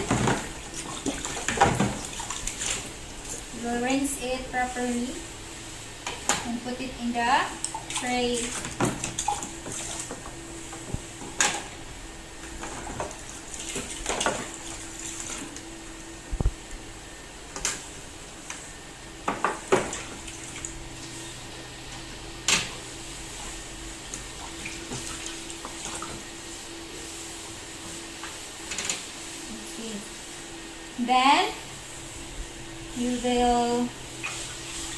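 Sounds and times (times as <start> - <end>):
rinsing under running water: 0.0 - 34.9.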